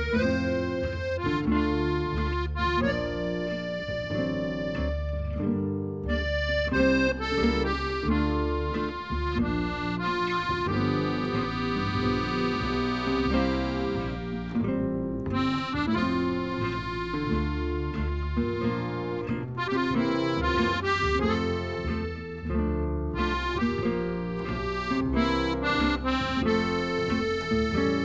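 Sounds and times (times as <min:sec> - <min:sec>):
instrumental music: 0:00.0 - 0:28.0.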